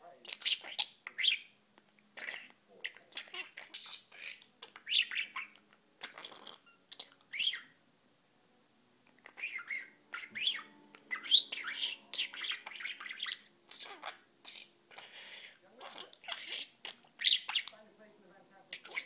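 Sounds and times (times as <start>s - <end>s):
budgerigar chirping: 0.2s - 7.8s, 9.1s - 17.9s, 18.7s - 19.0s.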